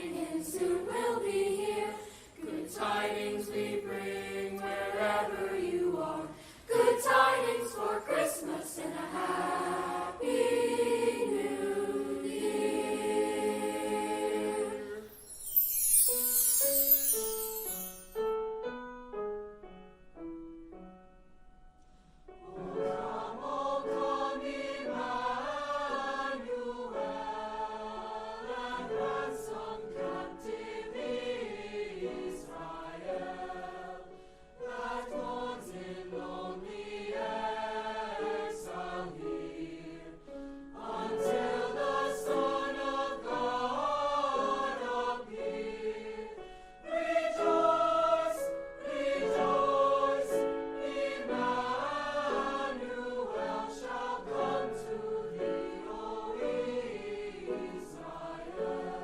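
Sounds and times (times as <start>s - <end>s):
choir singing: 0.0s - 18.2s, 22.4s - 59.0s.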